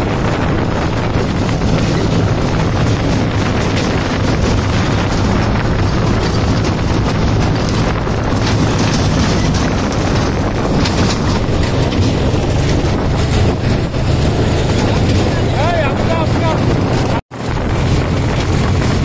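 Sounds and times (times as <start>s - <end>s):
road and rushing air noise: 0.0s - 19.0s
tractor diesel engine running: 0.0s - 19.0s
trailer rattling: 0.0s - 19.0s.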